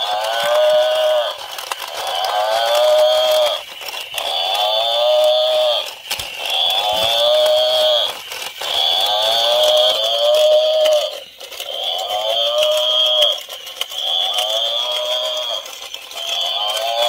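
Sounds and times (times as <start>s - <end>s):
recorded cow moo from toy speaker: 0.0s - 3.6s, 4.2s - 5.9s, 6.5s - 17.0s
toy walking gears clicking: 0.0s - 17.0s.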